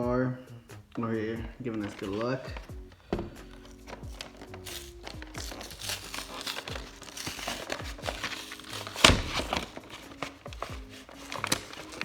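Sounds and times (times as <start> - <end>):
soft background music: 0.0 - 12.0
packaging crinkling and tearing: 1.6 - 12.0.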